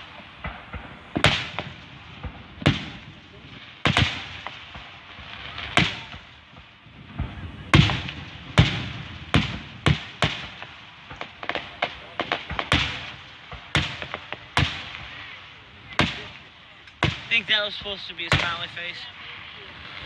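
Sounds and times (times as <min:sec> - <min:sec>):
crackling firework bangs: 0:00.0 - 0:20.0
fireworks booms with echo: 0:00.0 - 0:20.0.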